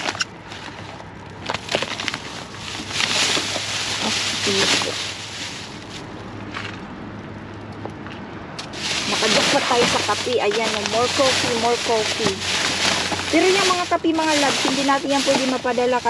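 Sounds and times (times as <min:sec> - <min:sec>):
plastic bag rustling: 0:00.0 - 0:06.3, 0:08.6 - 0:16.0.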